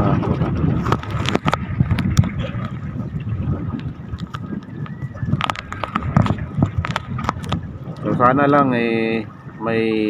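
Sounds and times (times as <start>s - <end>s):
strong wind on microphone: 0.0s - 10.0s.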